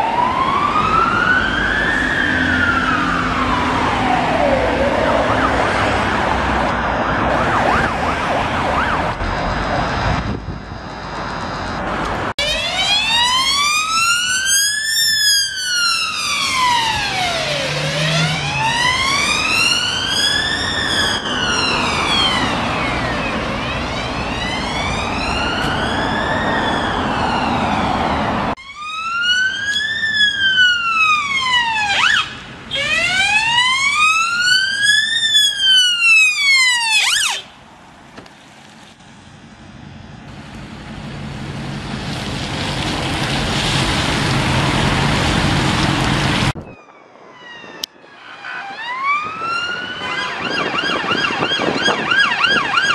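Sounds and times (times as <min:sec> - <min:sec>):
siren whoops: 0:00.0 - 0:37.5, 0:46.5 - 0:52.9
emergency siren wailing: 0:00.0 - 0:37.6, 0:42.7 - 0:52.9
passing traffic: 0:00.0 - 0:52.9.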